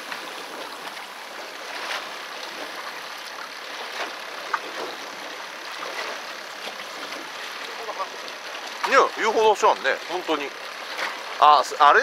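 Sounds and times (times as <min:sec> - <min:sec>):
choppy sea water rushing: 0:00.0 - 0:12.0
water swishes: 0:00.0 - 0:12.0.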